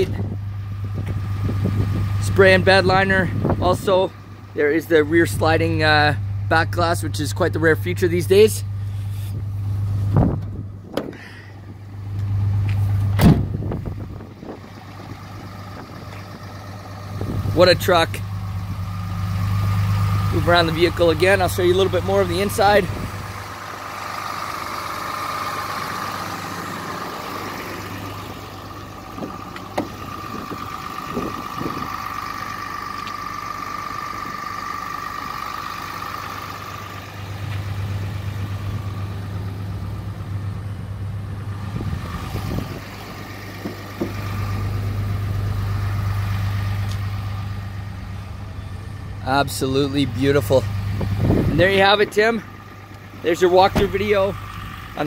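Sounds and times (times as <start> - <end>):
diesel engine idling: 0.0 - 55.0
high engine whine: 0.0 - 55.0.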